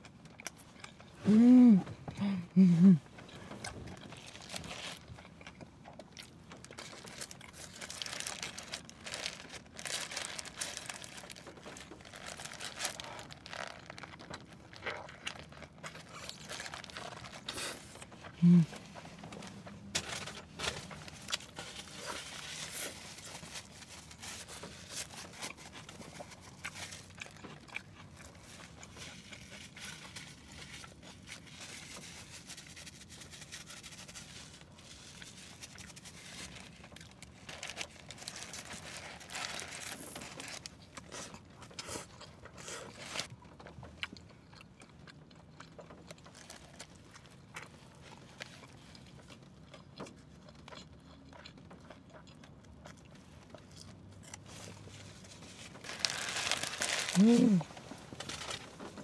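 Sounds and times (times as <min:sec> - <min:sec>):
chewing and crunching food: 0:00.0 - 0:02.3, 0:02.9 - 0:59.0.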